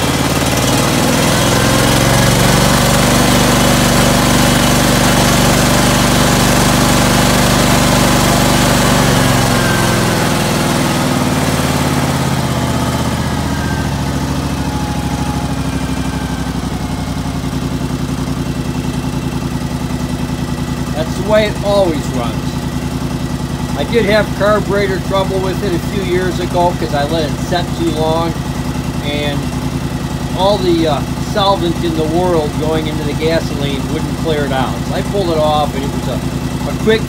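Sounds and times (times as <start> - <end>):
garden tractor engine running: 0.0 - 37.0.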